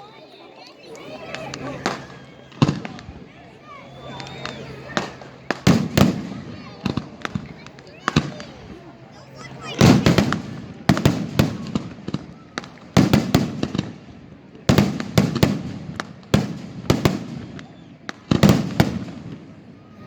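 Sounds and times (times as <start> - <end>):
fireworks banging: 1.0 - 20.0.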